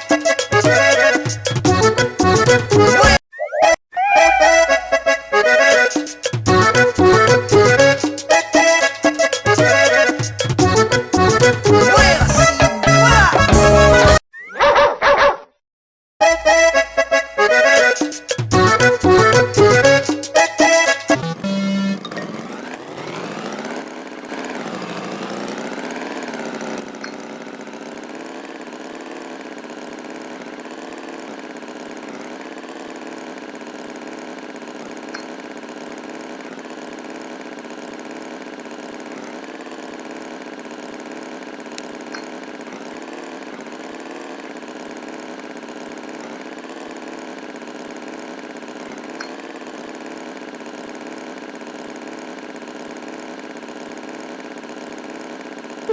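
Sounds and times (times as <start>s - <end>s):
engine running: 0.0s - 3.2s, 4.0s - 14.2s, 16.3s - 55.9s.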